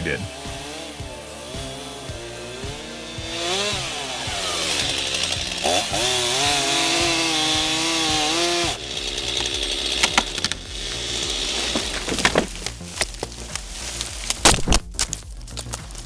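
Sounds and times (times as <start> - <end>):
chainsaw engine running: 0.0 - 16.0
sharp cracks and snaps: 2.6 - 16.0.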